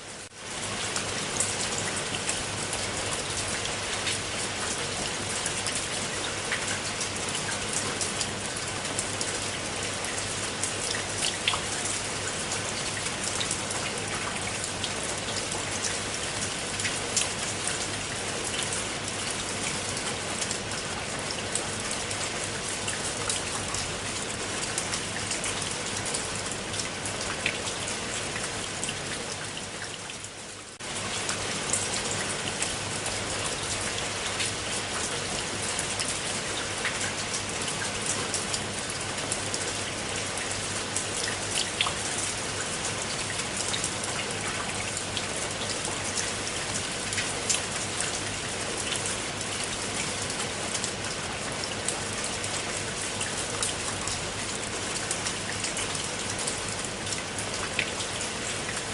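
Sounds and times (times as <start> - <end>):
rain falling on water: 0.0 - 58.9.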